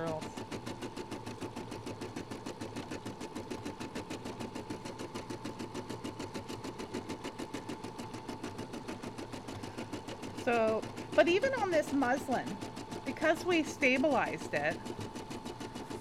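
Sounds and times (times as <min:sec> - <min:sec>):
embroidery machine needle strokes: 0:00.0 - 0:16.0.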